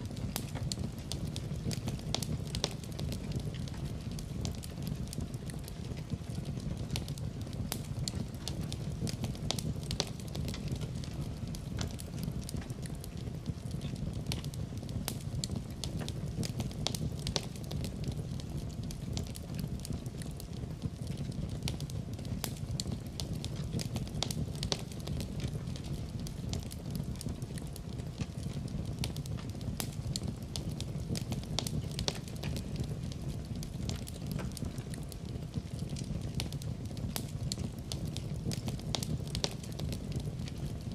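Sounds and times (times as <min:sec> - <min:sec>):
fire burning in fireplace: 0:00.0 - 0:40.9
fire crackles and pops: 0:00.0 - 0:40.9.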